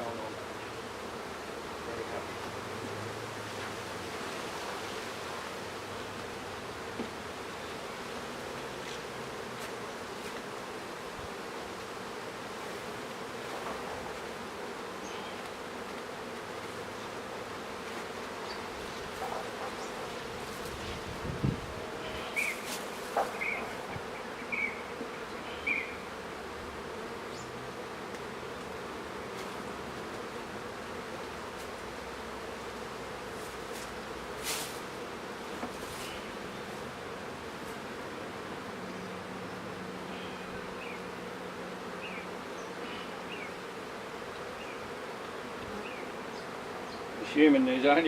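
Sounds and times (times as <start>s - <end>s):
honeybees buzzing: 0.0s - 48.0s.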